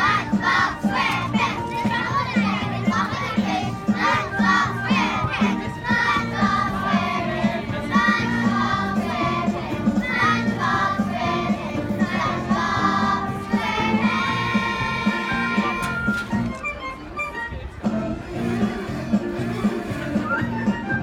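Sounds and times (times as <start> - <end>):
children's choir singing: 0.0 - 16.2, 18.2 - 20.3.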